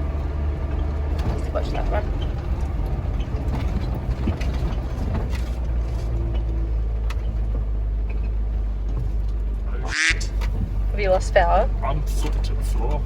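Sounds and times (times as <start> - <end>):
van engine labouring: 0.0 - 13.0.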